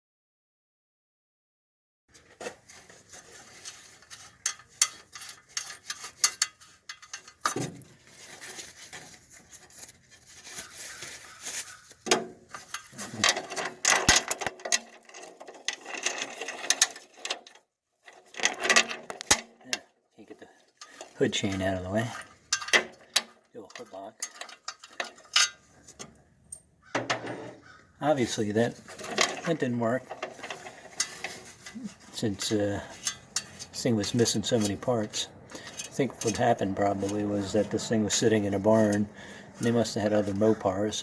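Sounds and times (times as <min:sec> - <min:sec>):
hand tools clanking on metal: 0:03.2 - 0:09.1, 0:10.6 - 0:19.8, 0:20.7 - 0:26.2, 0:26.9 - 0:41.0.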